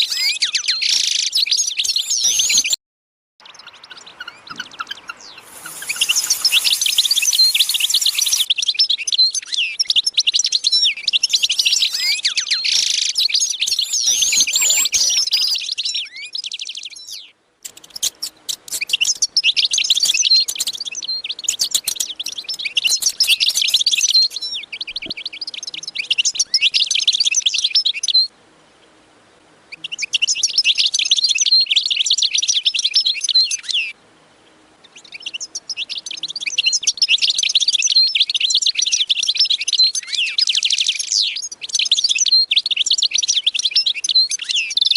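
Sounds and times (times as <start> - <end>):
small birds chirping: 0.0 - 2.8, 3.4 - 29.0, 29.7 - 44.9.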